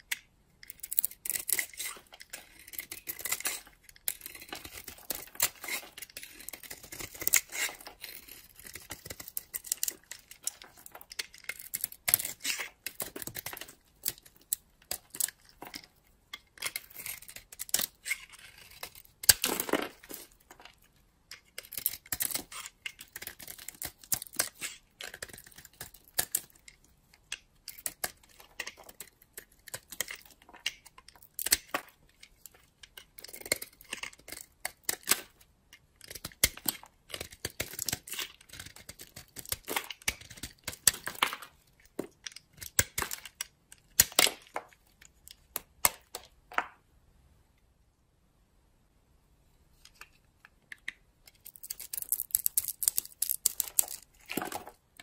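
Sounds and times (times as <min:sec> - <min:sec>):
knife scraping bar soap: 0:00.6 - 0:46.2.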